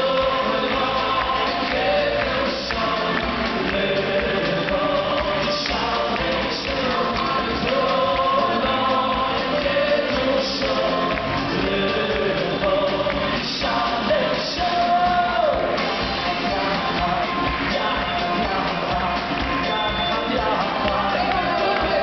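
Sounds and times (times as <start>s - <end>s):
men singing into microphones: 0.0s - 22.0s
percussion: 0.0s - 22.0s.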